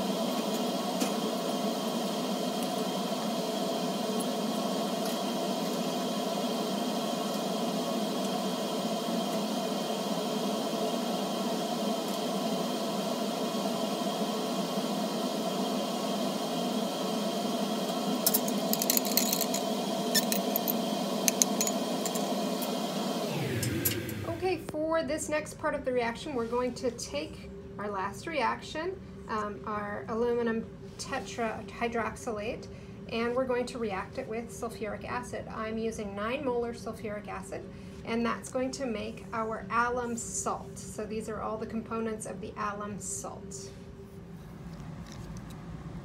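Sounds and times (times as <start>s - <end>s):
steady mechanical hum: 0.0s - 46.0s.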